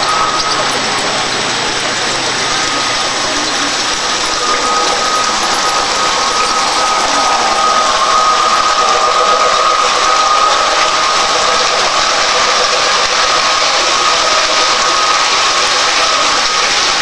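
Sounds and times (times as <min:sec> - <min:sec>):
model train motor whine: 0:00.0 - 0:17.0
wheels hissing and rumbling: 0:00.0 - 0:17.0.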